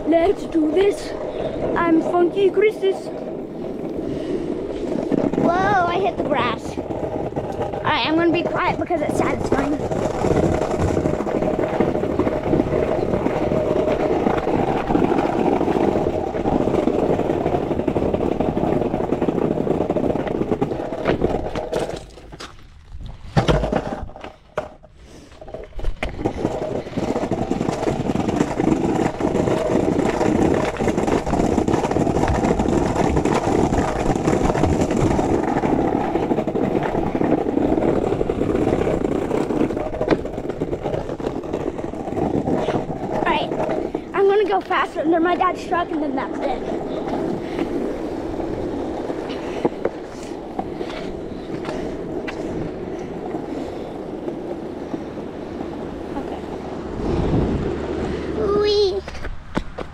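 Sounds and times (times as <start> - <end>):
skateboard wheels rolling on stone: 0.0 - 59.9.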